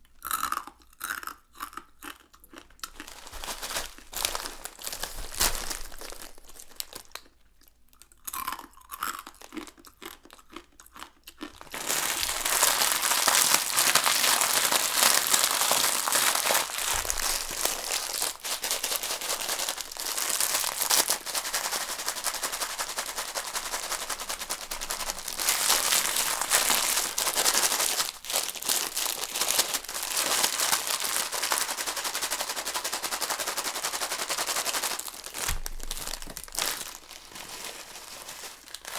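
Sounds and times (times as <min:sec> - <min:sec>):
dry noodles crunching: 0:00.2 - 0:07.4, 0:08.2 - 0:38.9.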